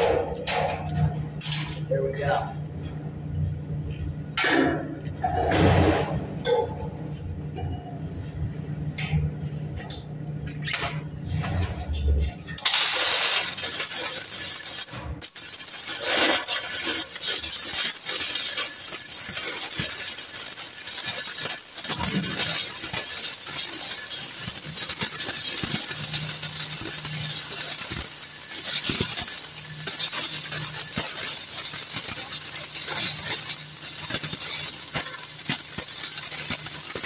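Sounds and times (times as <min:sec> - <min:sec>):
crackling welding arc: 0:00.0 - 0:09.0, 0:09.7 - 0:37.0.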